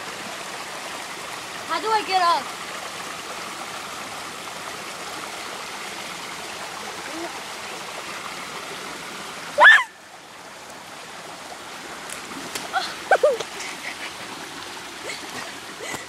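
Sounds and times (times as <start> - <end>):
creek water rushing over rocks: 0.0 - 16.0.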